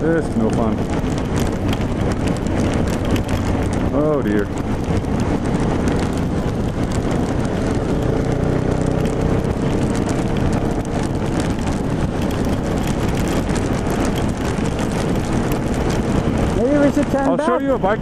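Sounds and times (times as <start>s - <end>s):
raindrops ticking: 0.0s - 17.8s
motorcycle engine drone: 0.0s - 18.0s
wind rush on microphone: 0.0s - 18.0s.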